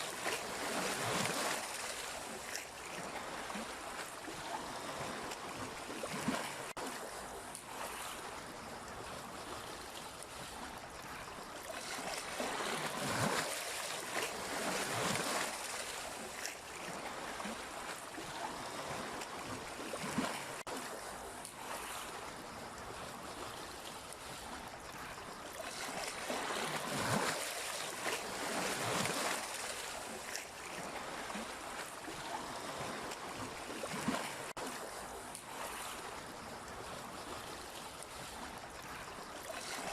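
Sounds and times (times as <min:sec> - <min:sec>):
sea waves surging: 0:00.0 - 0:39.9.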